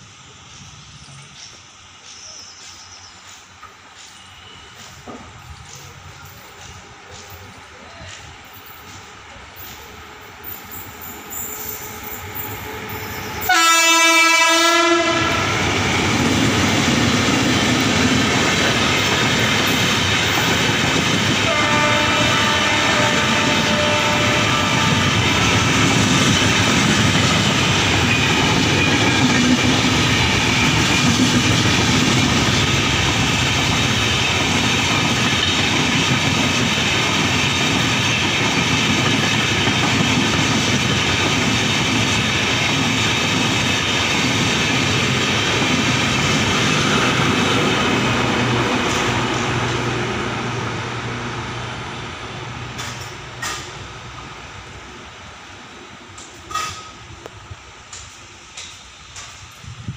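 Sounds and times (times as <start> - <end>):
train wheels rushing on rails: 0.0 - 59.9.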